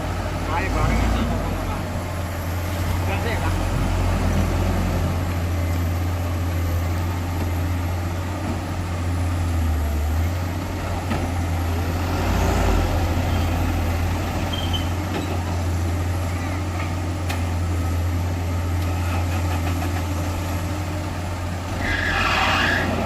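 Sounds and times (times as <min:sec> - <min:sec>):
heavy diesel engine running: 0:00.0 - 0:21.8.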